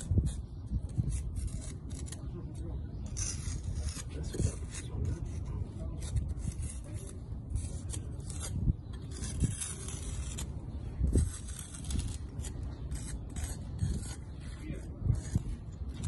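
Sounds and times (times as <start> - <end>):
metal tool scraping mortar: 0.0 - 16.0.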